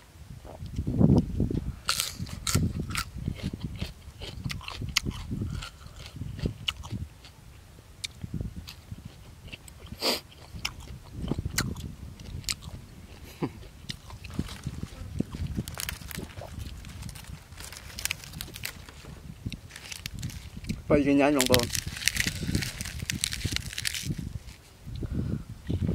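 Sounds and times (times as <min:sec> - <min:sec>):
man chewing crunchy food: 0:01.9 - 0:07.4, 0:08.0 - 0:25.0.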